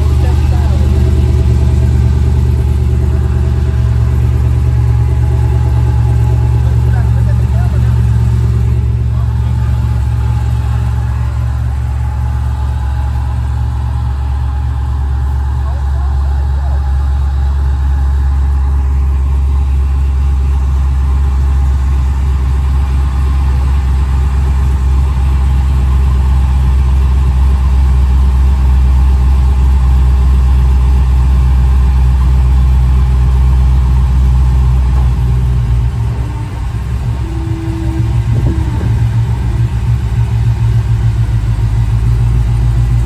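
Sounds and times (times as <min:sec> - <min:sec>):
car engine exhaust rumble: 0:00.0 - 0:43.0.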